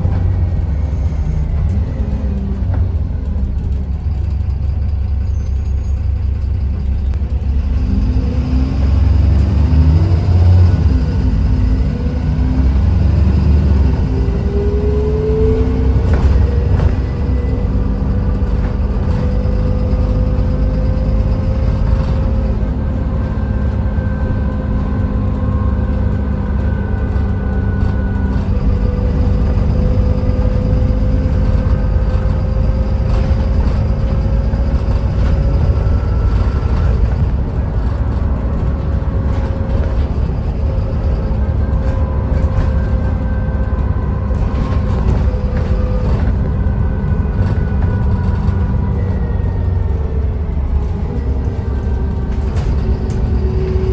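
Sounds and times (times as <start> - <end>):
bus engine rumble and whine: 0.0 - 53.9.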